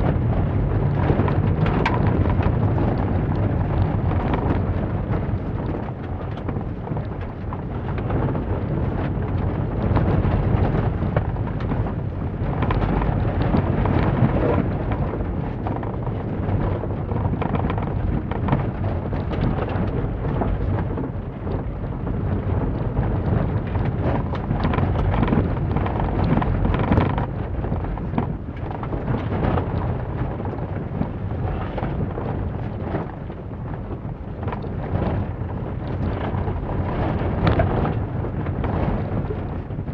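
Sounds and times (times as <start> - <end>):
rattles and crackles: 0.0 - 39.9.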